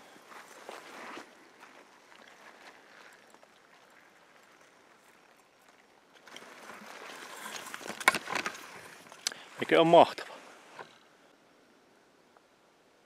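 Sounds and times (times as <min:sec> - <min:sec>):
faint forest background: 0:00.0 - 0:13.0.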